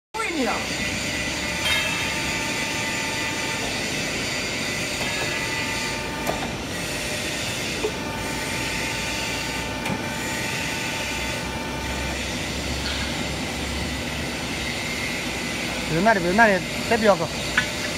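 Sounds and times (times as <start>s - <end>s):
high steady whining tones: 0.2s - 17.9s.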